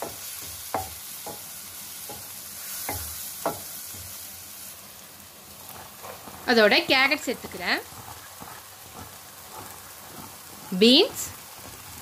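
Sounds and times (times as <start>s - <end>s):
spatula scraping and knocking pan: 0.0s - 4.2s, 5.7s - 12.0s
onions sizzling in oil: 0.0s - 12.0s.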